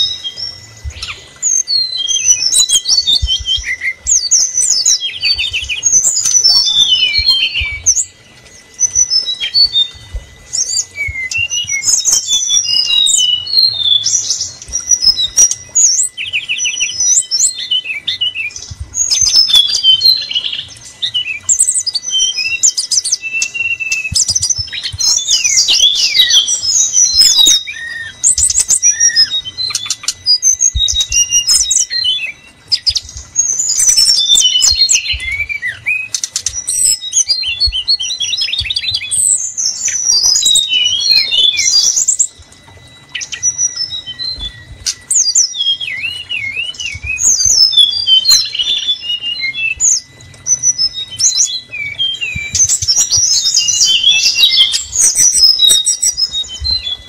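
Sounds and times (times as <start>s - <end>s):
bird song whistles and trills: 0.0s - 57.0s.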